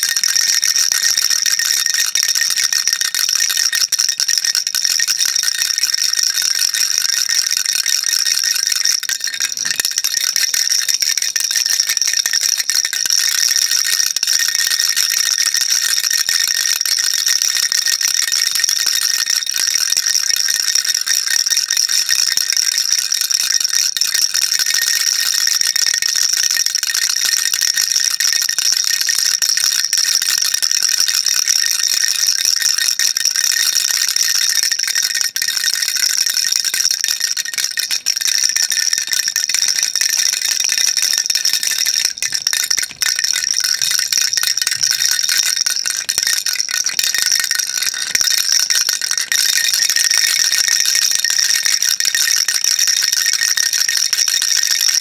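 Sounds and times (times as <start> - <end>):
baby rattle shaking: 0.0 - 23.7, 31.9 - 52.2.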